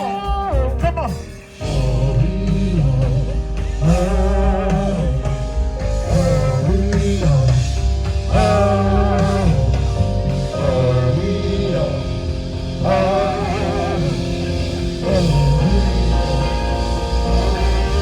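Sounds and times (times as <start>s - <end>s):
drums playing a groove: 0.0s - 18.0s
electric guitar: 0.0s - 18.0s.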